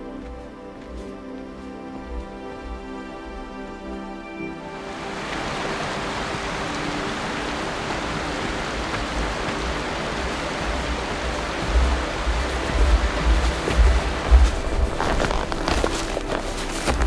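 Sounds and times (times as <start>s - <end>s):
background music: 0.0s - 17.0s
mountain creek rushing: 0.0s - 17.0s.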